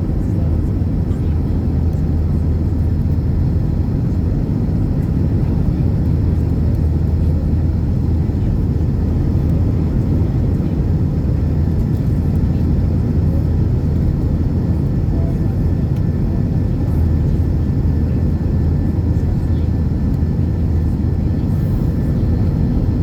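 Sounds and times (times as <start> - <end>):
constant hum: 0.0 - 23.0
jet engine rumble: 0.0 - 23.0.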